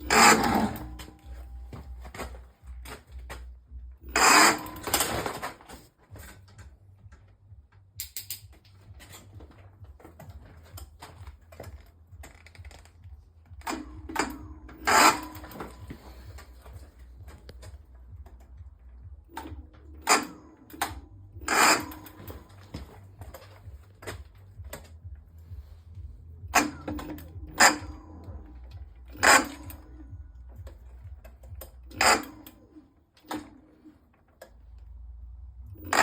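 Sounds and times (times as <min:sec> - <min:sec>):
e-bike motor grinding: 0:00.0 - 0:06.7, 0:08.8 - 0:36.0
clicking and rattling: 0:00.0 - 0:35.0
steady low hum: 0:00.0 - 0:36.0.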